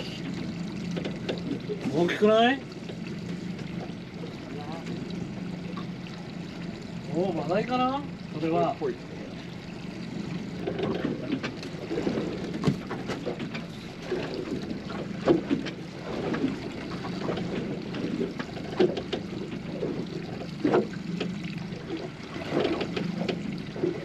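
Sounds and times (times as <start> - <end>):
water slapping against boat hull: 0.0 - 24.0.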